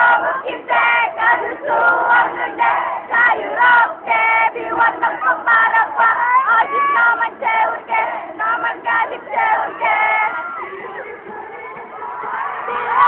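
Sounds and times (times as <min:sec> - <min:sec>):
crowd shouting and singing along: 0:00.0 - 0:13.0.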